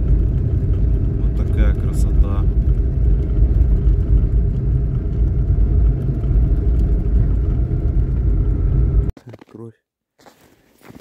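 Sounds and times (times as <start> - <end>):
engine and tyre rumble: 0.0 - 9.2.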